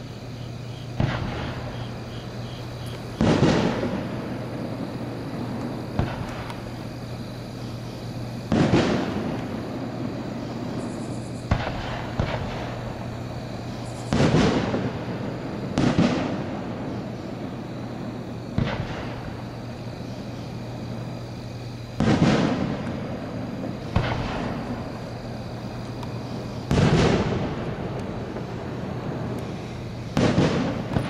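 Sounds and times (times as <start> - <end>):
firework shells bursting: 0.9 - 19.9, 21.8 - 31.0.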